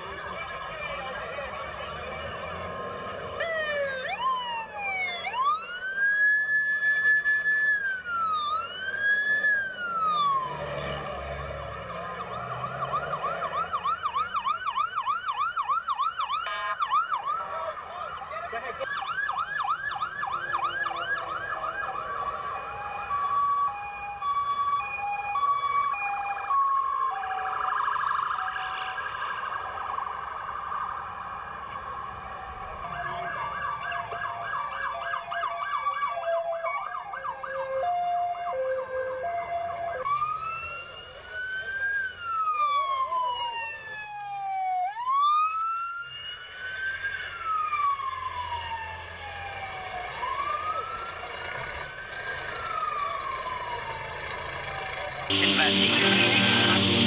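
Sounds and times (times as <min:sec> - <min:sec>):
emergency vehicle sirens: 0:00.0 - 0:57.0.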